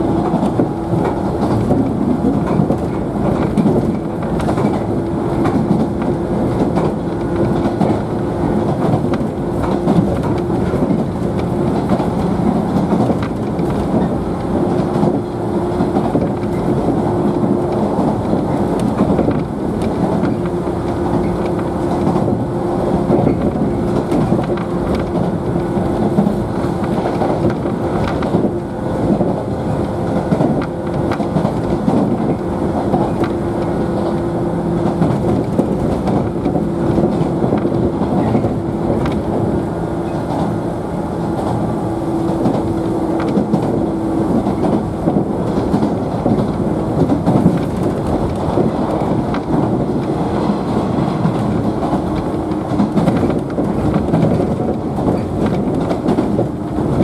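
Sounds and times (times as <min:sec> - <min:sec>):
train wheels rumbling on rail: 0:00.0 - 0:57.0
clicks over rail joints: 0:00.2 - 0:57.0.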